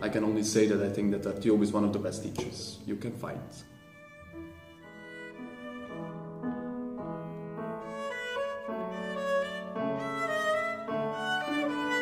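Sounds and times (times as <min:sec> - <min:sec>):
bowed string music: 0:00.0 - 0:12.0.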